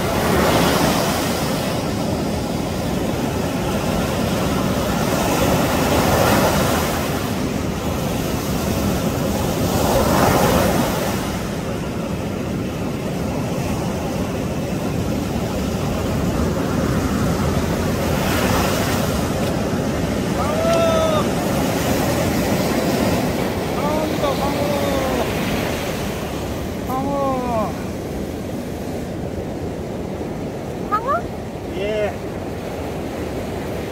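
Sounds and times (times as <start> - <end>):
waves breaking on beach: 0.0 - 33.9.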